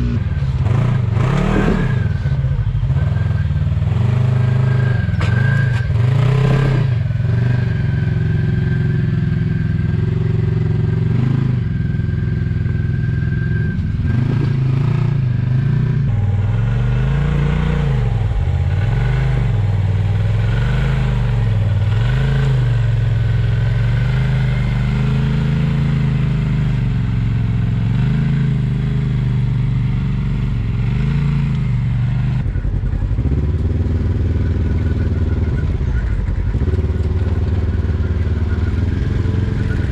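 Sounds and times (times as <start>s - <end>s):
off-road vehicle engines revving: 0.0s - 39.9s.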